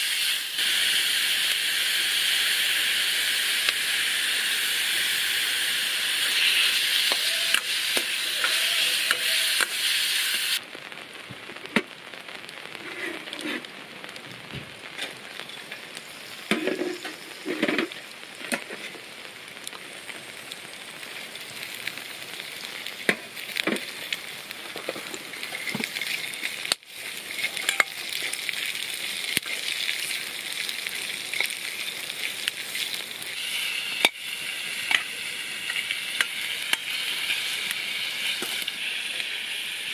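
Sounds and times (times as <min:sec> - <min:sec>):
meat sizzling in a wok: 0:00.0 - 0:11.0, 0:14.8 - 0:39.9.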